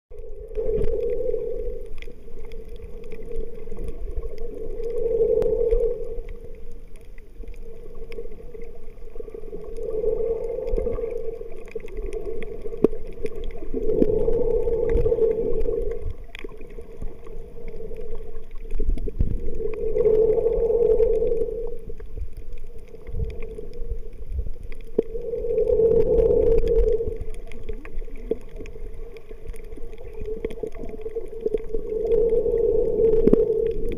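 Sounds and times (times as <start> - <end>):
faint clicks: 0.1 - 33.9
low rumbling water movement: 0.1 - 33.9
steady underwater hum: 0.1 - 33.9.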